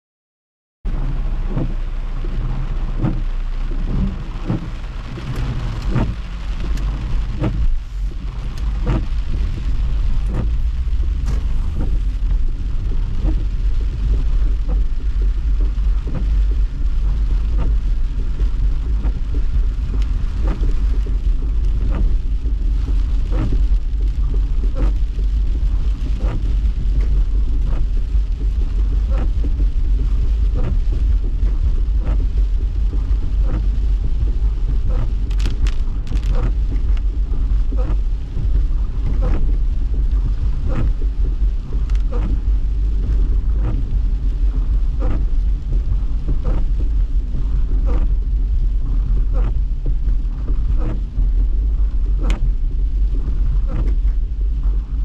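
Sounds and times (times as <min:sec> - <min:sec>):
rain tapping on windshield: 0:00.9 - 0:55.0
road and engine rumble: 0:00.9 - 0:55.0.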